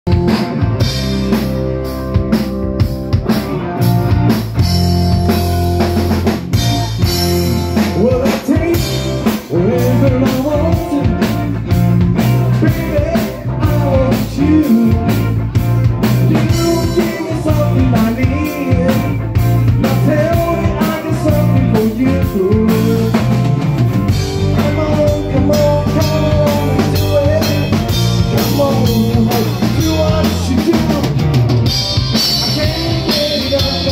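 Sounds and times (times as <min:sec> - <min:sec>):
bass guitar: 0:00.0 - 0:33.9
drum kit steady beat: 0:00.0 - 0:33.9
electric guitars with bending melody: 0:00.0 - 0:33.9.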